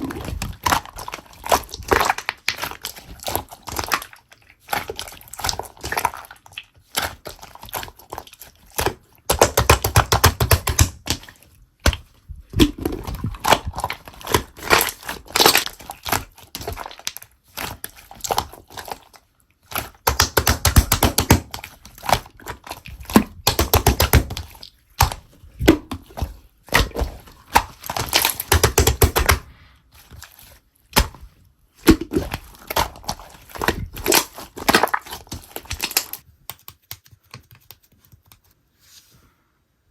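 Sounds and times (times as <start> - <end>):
slime clicking and crackling: 0.0 - 37.8.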